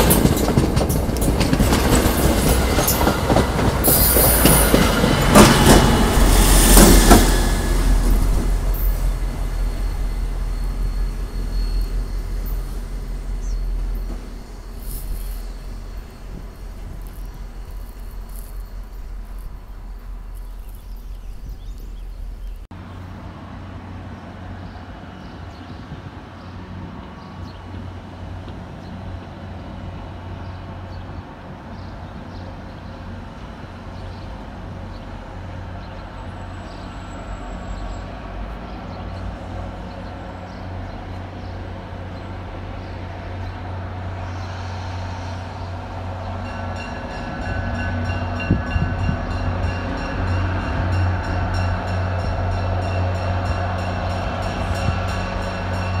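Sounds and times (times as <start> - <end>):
diesel train rumbling: 0.0 - 56.0.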